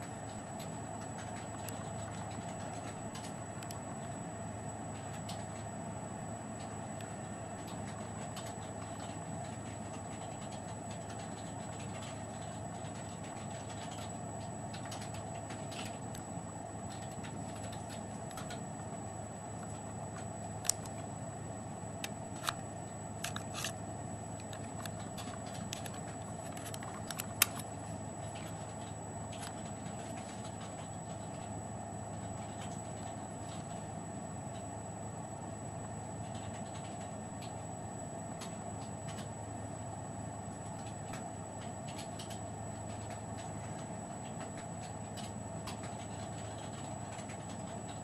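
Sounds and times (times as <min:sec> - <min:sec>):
background hum: 0:00.0 - 0:48.0
faint high whine: 0:00.0 - 0:48.0.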